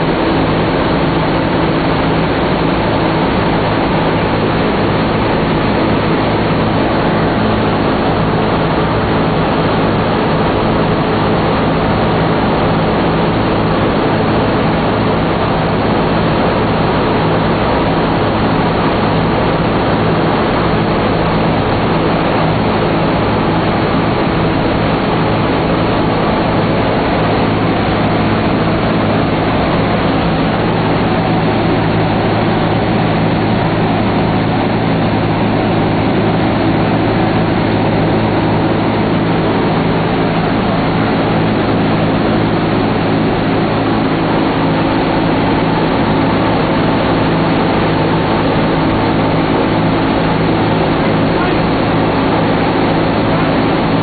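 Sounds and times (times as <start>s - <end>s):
aircraft engines droning: 0.0s - 54.0s.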